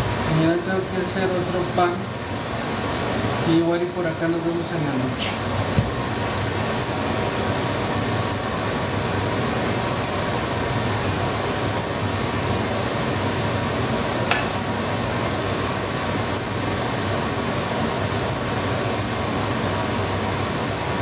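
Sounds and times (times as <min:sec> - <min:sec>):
fan-like noise: 0:00.0 - 0:21.0.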